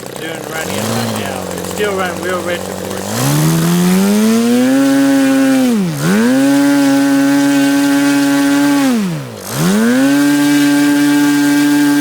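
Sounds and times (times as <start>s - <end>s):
model airplane engine at high revs: 0.0s - 12.0s.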